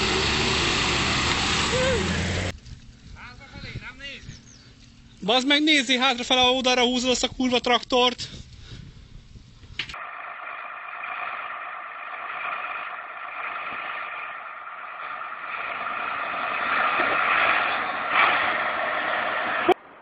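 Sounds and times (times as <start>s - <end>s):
diesel tractor engines under load: 0.0s - 19.8s.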